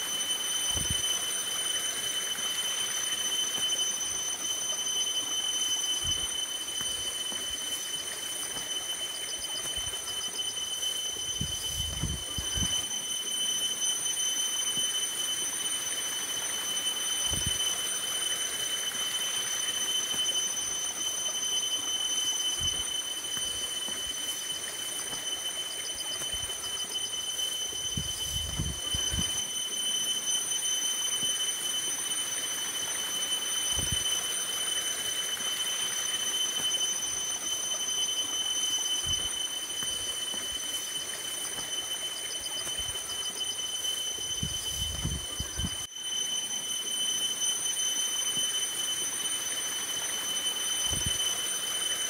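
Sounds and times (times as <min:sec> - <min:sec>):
high-pitched whine: 0:00.0 - 0:52.0.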